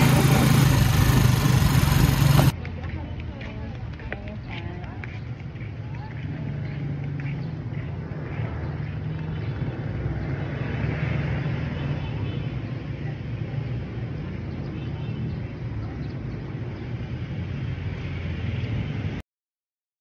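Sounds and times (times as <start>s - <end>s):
urban background low rumble: 0.0s - 10.8s, 11.6s - 19.2s.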